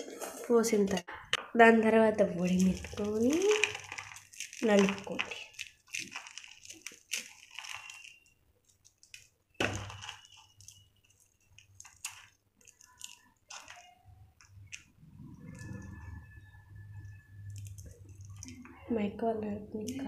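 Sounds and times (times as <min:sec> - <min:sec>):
dry food crunching by hand: 0:02.4 - 0:18.8.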